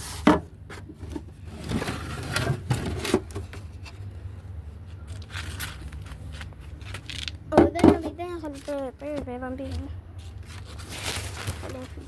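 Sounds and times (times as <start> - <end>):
objects knocking and scraping: 0.0 - 12.0
steady low hum: 0.0 - 12.0.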